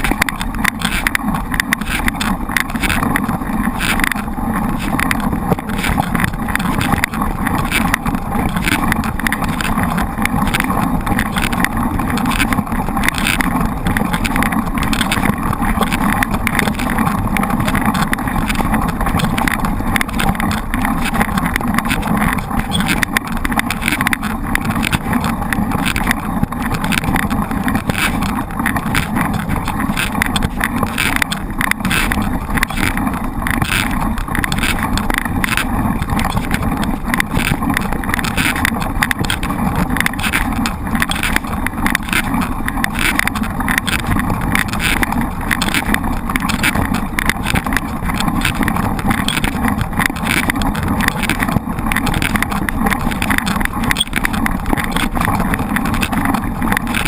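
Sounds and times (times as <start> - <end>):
bike rattling and knocking: 0.0 - 57.0
wind on microphone: 0.0 - 57.0.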